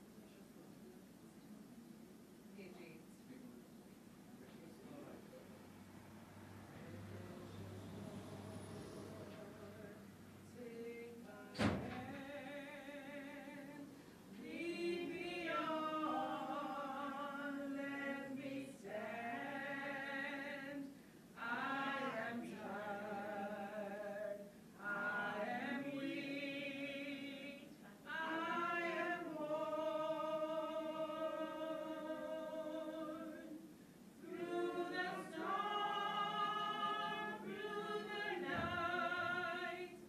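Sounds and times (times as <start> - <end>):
choir singing unaccompanied: 6.4 - 40.0.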